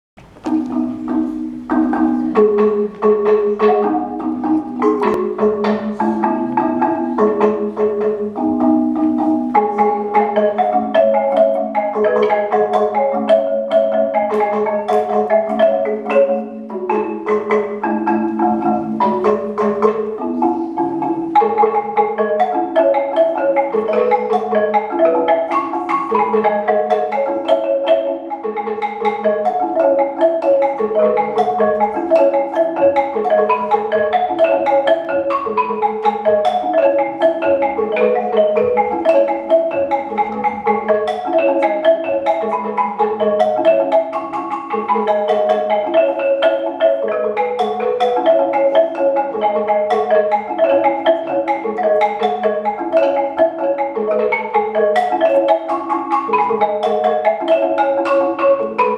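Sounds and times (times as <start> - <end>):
bamboo marimba playing: 0.2 - 58.9.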